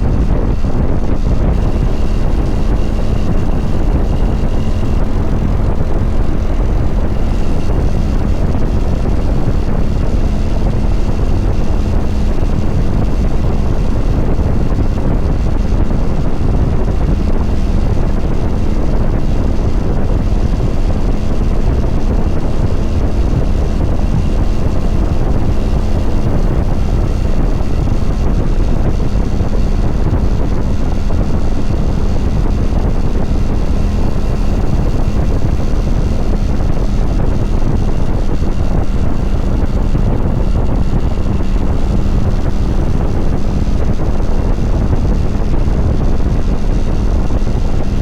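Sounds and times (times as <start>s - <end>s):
motorcycle engine running: 0.0s - 48.0s
wind rush on microphone: 0.0s - 48.0s.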